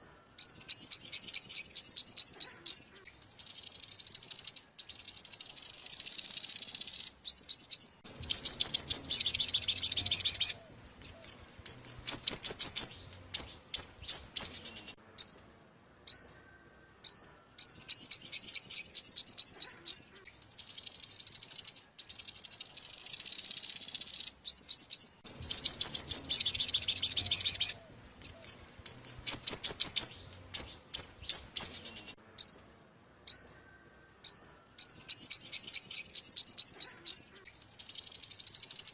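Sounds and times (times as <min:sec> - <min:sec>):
bird song with high trills: 0:00.0 - 0:38.9.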